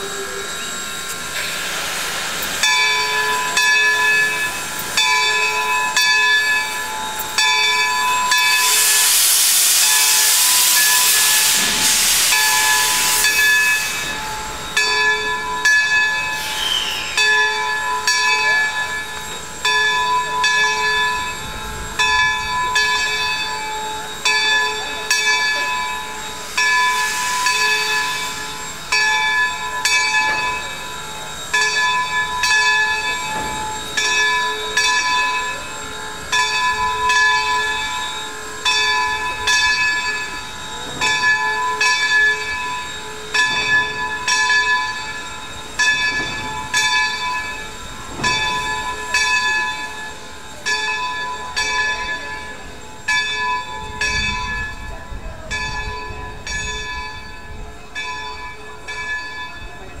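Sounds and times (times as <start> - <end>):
locomotive bell ringing: 0.0 - 60.0.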